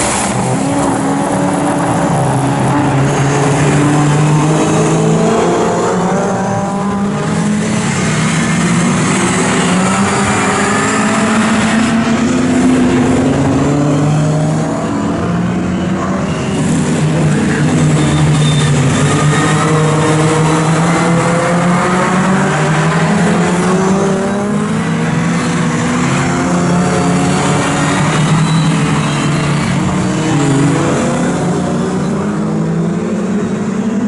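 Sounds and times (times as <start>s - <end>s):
racing car engines: 0.0s - 34.0s.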